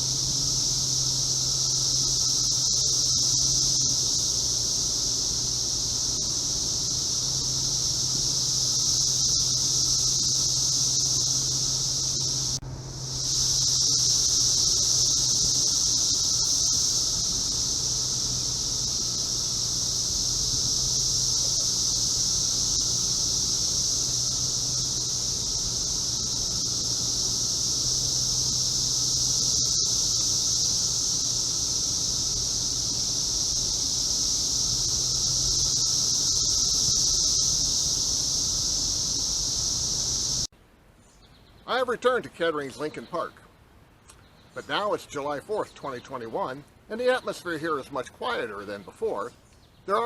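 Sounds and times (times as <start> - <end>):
cicadas droning: 0.0 - 50.0.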